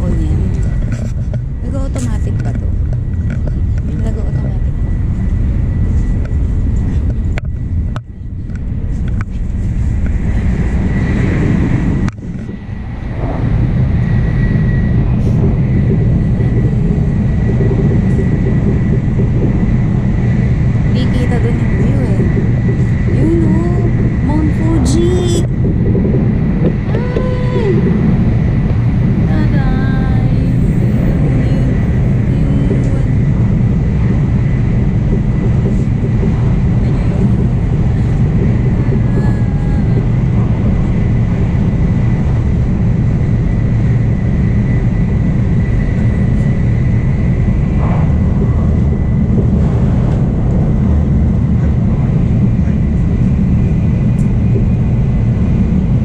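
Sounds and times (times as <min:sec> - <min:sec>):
train interior low rumble: 0:00.0 - 0:56.0.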